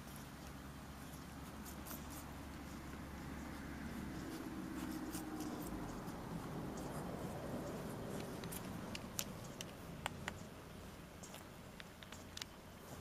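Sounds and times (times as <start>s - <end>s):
puppies suckling mouth sounds: 0.0s - 13.0s.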